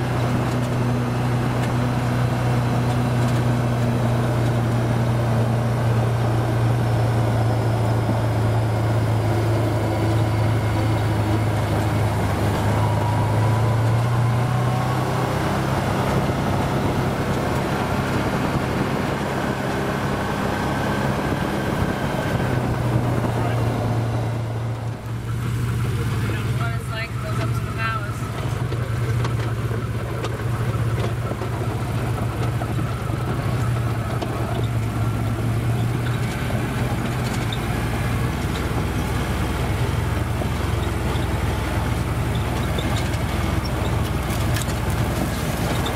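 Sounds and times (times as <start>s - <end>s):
atv engine droning: 0.0s - 45.9s
tyres on gravel: 0.0s - 45.9s.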